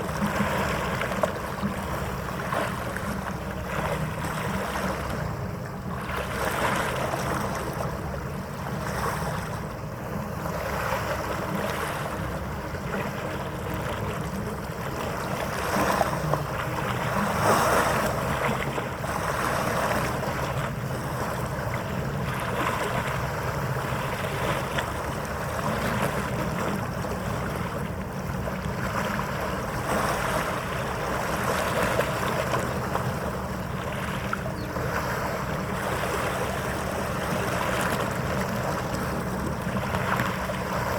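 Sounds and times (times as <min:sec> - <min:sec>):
harbour water noise: 0:00.0 - 0:40.9.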